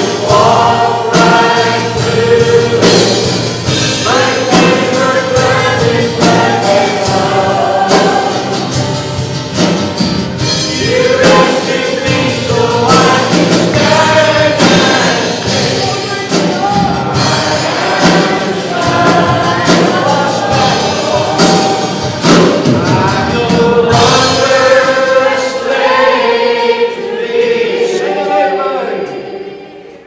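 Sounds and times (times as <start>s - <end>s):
band playing a steady beat: 0.0s - 30.0s
congregation singing a hymn: 0.0s - 30.0s.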